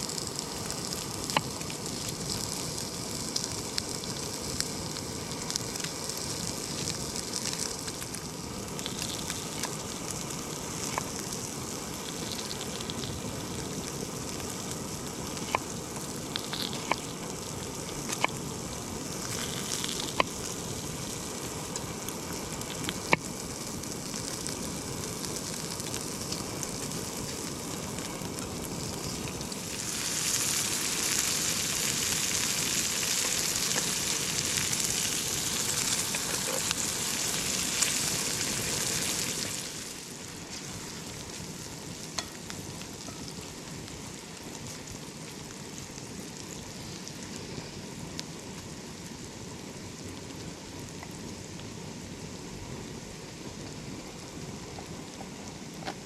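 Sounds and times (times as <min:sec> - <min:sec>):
campfire crackling: 0:00.0 - 0:56.0
fire popping: 0:00.0 - 0:56.0.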